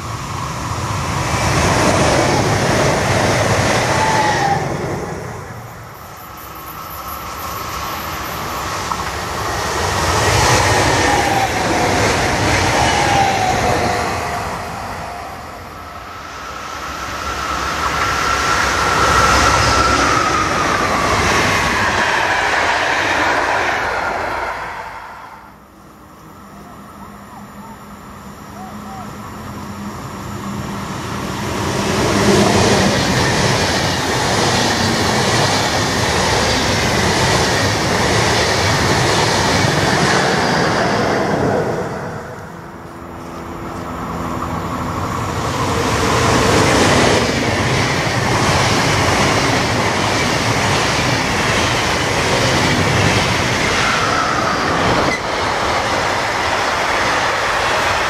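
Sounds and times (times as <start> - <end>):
freight train wheels on rails: 0.0 - 26.8, 28.0 - 58.0
train rushing past: 0.0 - 26.9, 27.5 - 58.0.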